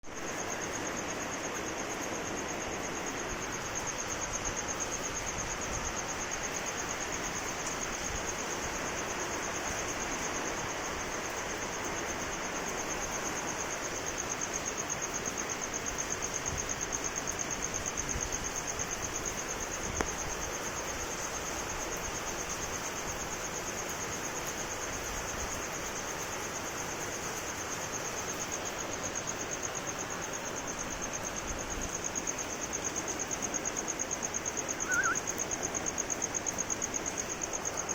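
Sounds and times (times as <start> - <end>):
rain hiss: 0.0 - 37.9
high-pitched insect trill: 0.1 - 37.9.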